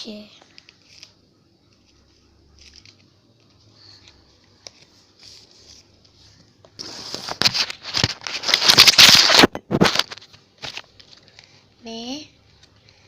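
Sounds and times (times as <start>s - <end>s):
faint handling sounds: 0.2s - 11.8s
plastic rustling and crinkling: 0.5s - 11.6s.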